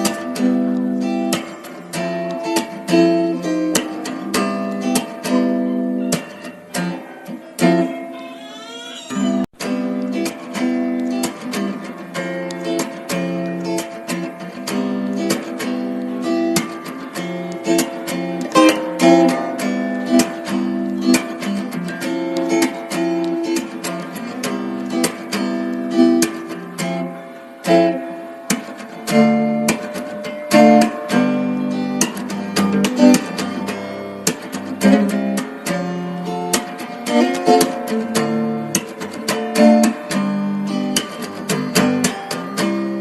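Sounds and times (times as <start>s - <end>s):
acoustic guitar strummed and plucked: 0.0s - 43.0s.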